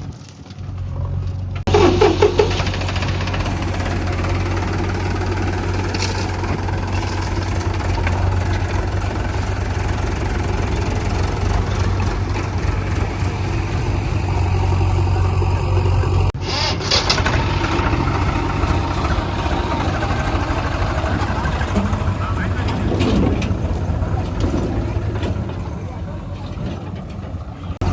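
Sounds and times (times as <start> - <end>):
diesel engine humming: 0.0 - 27.9.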